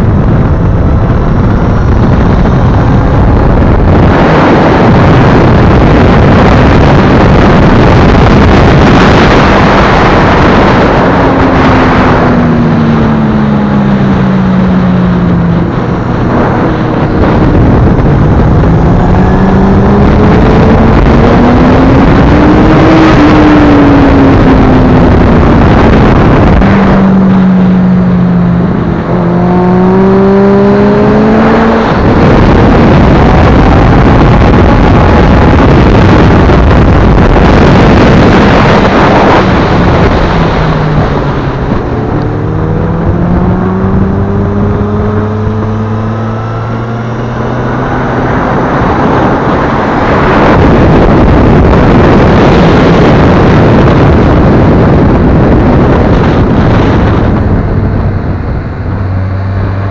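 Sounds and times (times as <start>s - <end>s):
motorcycle engine: 0.0s - 59.9s
wind rush on microphone: 0.0s - 59.9s.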